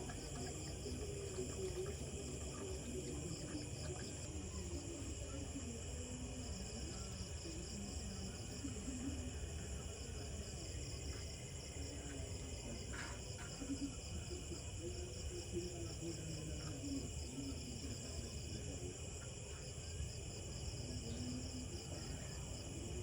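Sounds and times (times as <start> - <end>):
crickets chirring: 0.0 - 23.0.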